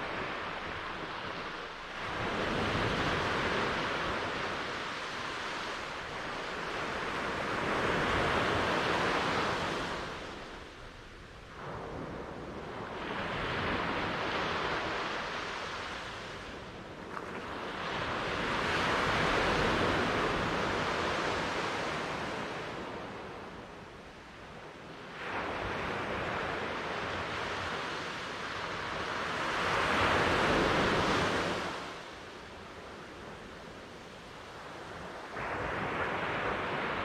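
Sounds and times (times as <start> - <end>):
waves breaking on shore: 0.0 - 24.3, 25.0 - 37.0.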